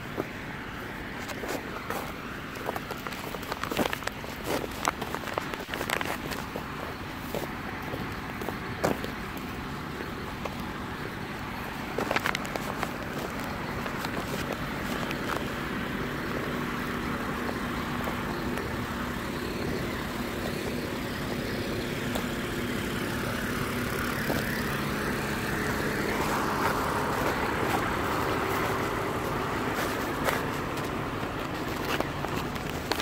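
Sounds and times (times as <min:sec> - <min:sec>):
diesel truck engine idling: 0:06.3 - 0:33.0.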